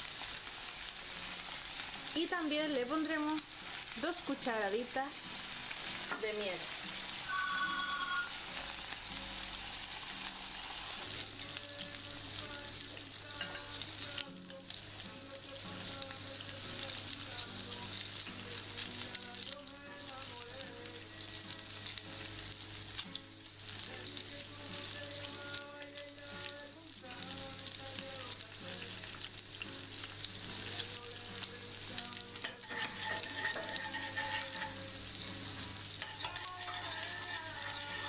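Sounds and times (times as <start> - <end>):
pork sizzling in oil: 0.0 - 38.0.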